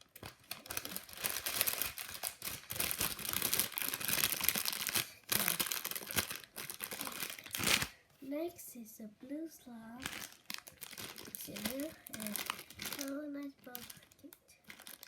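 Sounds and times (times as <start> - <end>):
packaging bag crinkling: 0.0 - 8.0, 10.0 - 15.0.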